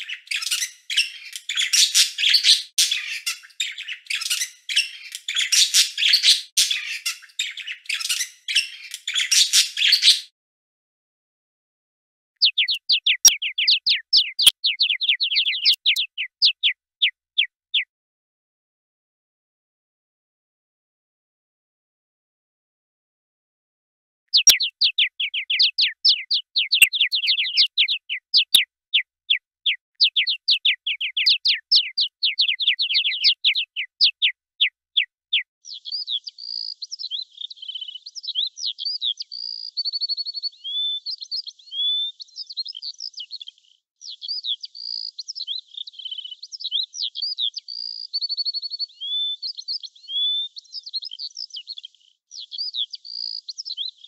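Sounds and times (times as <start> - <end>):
twittering bird song: 0.0 - 10.3, 12.4 - 17.9, 24.3 - 54.0.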